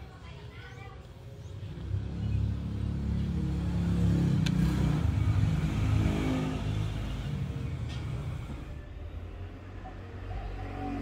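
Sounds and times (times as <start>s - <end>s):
vehicle engine passing: 1.5s - 11.0s.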